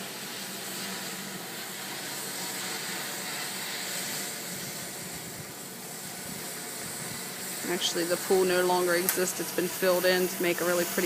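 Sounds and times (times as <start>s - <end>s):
pressure washer spraying concrete: 0.0s - 11.0s.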